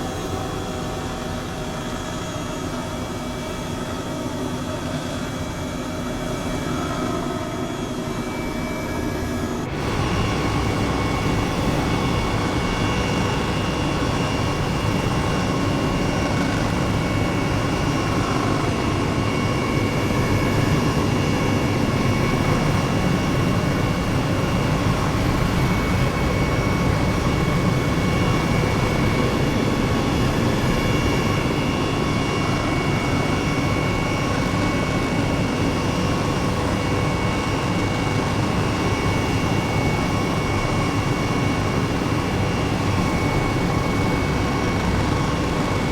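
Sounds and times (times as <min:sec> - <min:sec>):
helicopter flying: 0:00.0 - 0:45.9.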